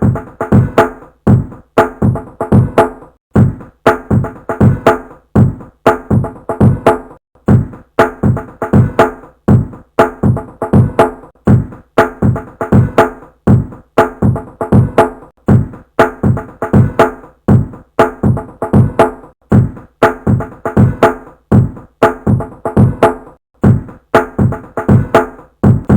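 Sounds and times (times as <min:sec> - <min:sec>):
looped drum pattern: 0:00.0 - 0:25.9.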